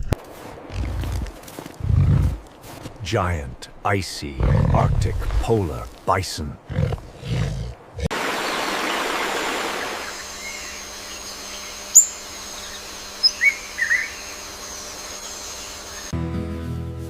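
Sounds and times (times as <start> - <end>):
outdoor background noise: 0.0 - 16.2.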